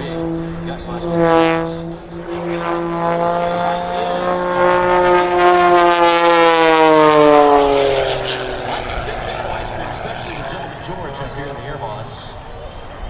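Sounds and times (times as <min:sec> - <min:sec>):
plane engine buzzing drone: 0:00.0 - 0:13.0.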